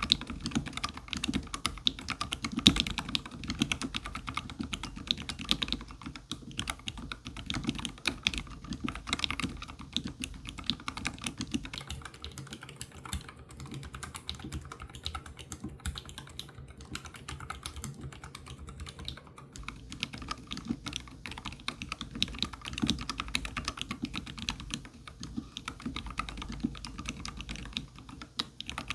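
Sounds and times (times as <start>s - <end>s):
fast typing on keyboard: 0.0s - 28.9s.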